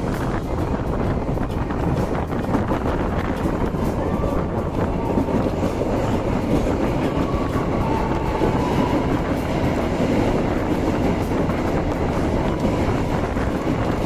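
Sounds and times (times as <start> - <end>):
clickety-clack of wheels: 0.0 - 14.0
train wheels rumbling on rails: 0.0 - 14.0.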